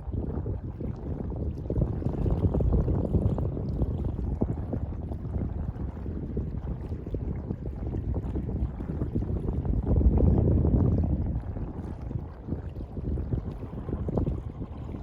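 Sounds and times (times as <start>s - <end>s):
sea water lapping and splashing: 0.0s - 15.0s
wind buffeting microphone: 0.0s - 15.0s.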